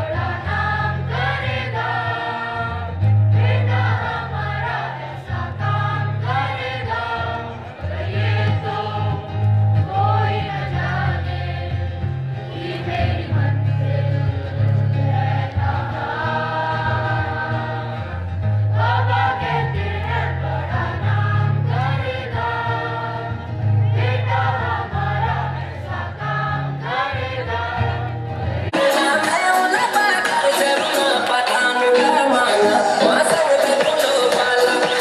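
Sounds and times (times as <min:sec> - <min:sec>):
choir singing: 0:00.0 - 0:11.8, 0:12.4 - 0:35.0
bass line: 0:00.0 - 0:35.0.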